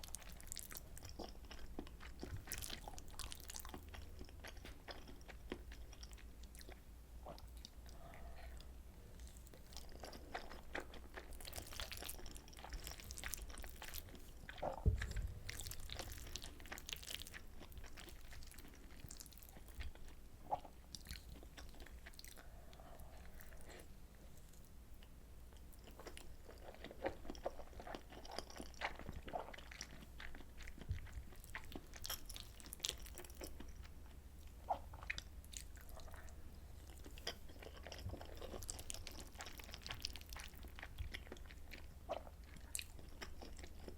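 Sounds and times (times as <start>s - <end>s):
close chewing: 0.0s - 20.1s, 25.8s - 43.9s.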